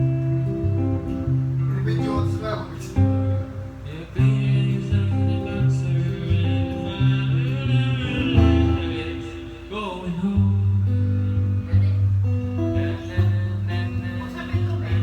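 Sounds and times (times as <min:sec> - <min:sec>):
guitar-led music with bass: 0:00.0 - 0:15.0.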